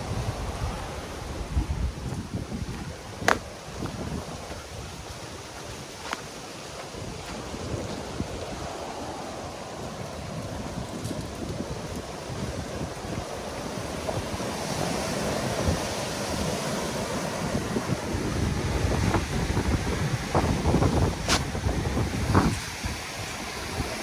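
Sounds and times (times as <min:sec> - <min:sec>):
waves breaking on beach: 0:00.0 - 0:24.0
wind buffeting microphone: 0:00.0 - 0:24.0.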